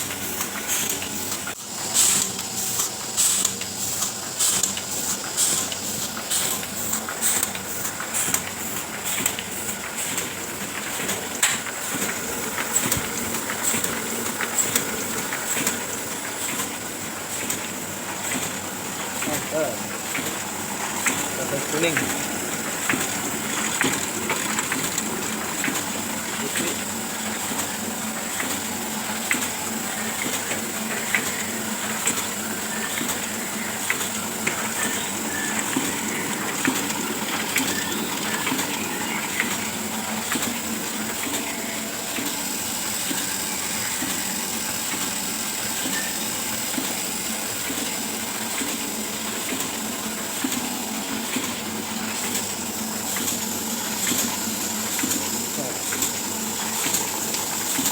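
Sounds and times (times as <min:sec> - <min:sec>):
printing press clicks clattering: 0:00.0 - 0:57.9
printing press hiss and hum: 0:00.0 - 0:57.9.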